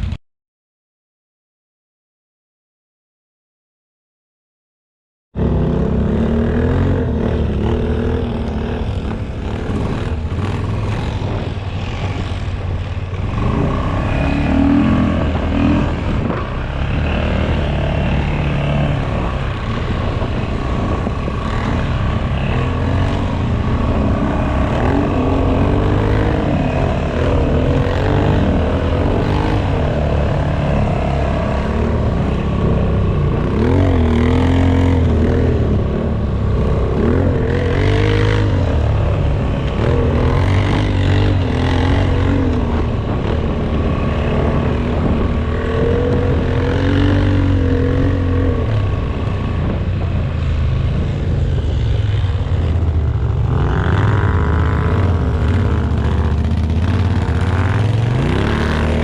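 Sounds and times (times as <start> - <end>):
atv engine revving: 5.4 - 59.0.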